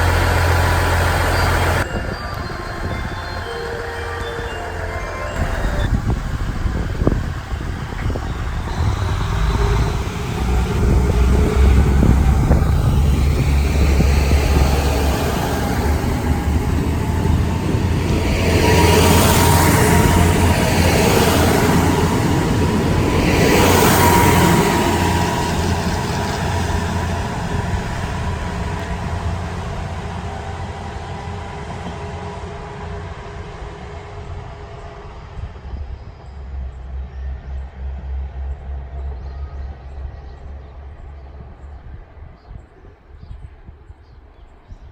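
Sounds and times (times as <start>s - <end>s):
diesel railcar engine drone: 0.0s - 44.9s.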